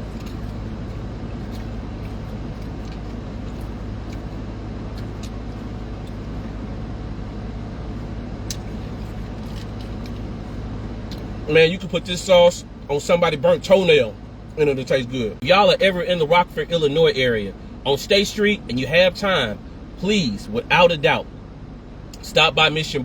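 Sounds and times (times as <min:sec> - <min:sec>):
motor running low rumble: 0:00.0 - 0:23.0.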